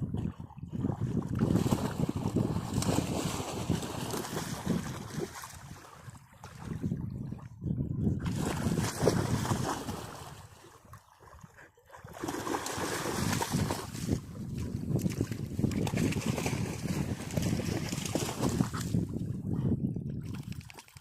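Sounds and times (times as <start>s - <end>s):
water sloshing and splashing: 0.0s - 7.6s, 8.2s - 19.2s
wind buffeting the microphone: 0.0s - 11.6s, 12.2s - 21.0s.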